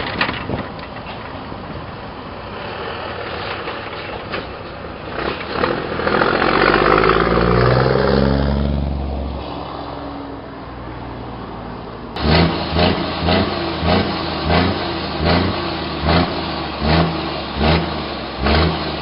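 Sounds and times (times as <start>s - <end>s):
diesel truck passing by: 1.0s - 19.0s.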